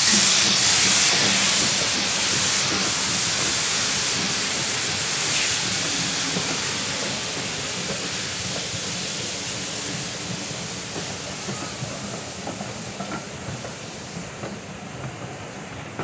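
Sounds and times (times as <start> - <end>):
steam hissing: 0.0 - 16.0
train coaches rolling past: 0.0 - 16.0.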